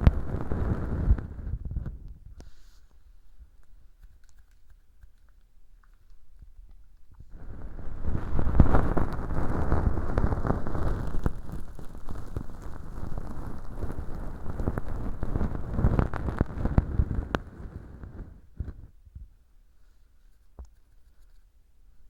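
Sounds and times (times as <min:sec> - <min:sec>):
earpick rubbing crackly rustle: 0:00.0 - 0:18.9, 0:19.8 - 0:21.6.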